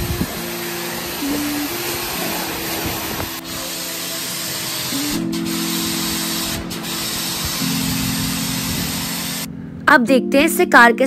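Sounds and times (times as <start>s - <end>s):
pressure washer water jet hissing: 0.0s - 9.5s
background music: 0.0s - 11.0s.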